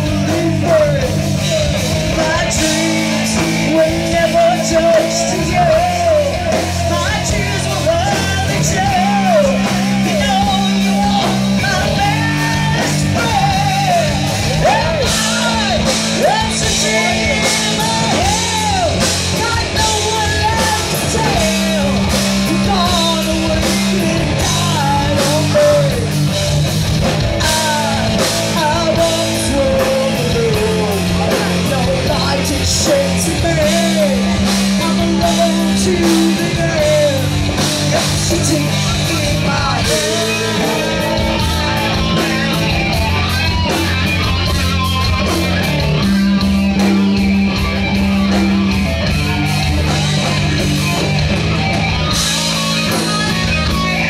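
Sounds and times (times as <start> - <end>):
person singing: 0.0 - 26.4, 27.3 - 44.6
metal band playing live: 0.0 - 54.0.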